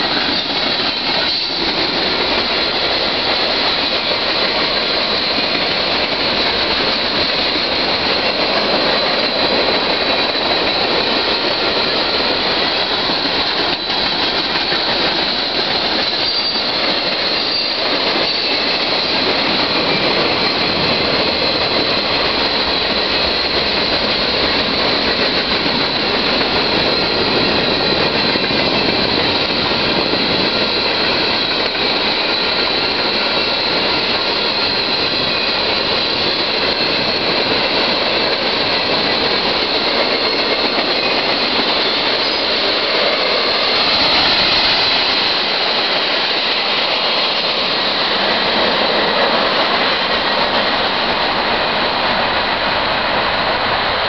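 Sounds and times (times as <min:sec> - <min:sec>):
freight train wheels rushing: 0:00.0 - 0:54.0.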